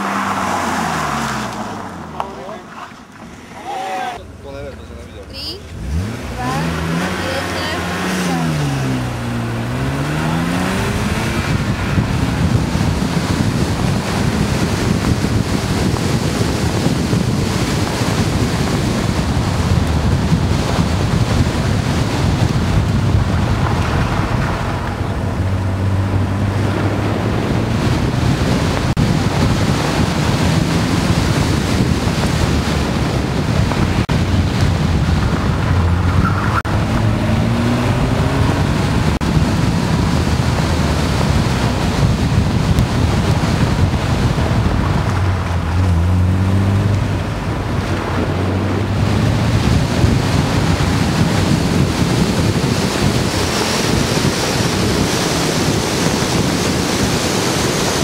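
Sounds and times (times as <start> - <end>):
car engine revving: 0.0 - 58.0
wind buffeting microphone: 4.0 - 58.0.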